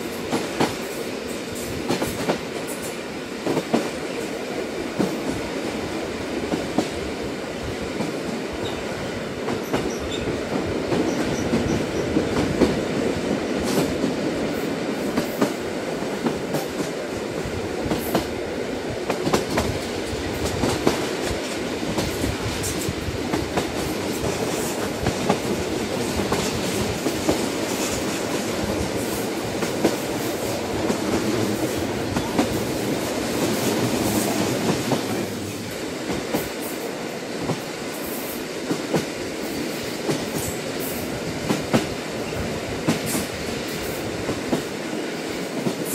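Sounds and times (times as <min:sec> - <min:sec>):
train rumbling on track: 0:00.0 - 0:45.9.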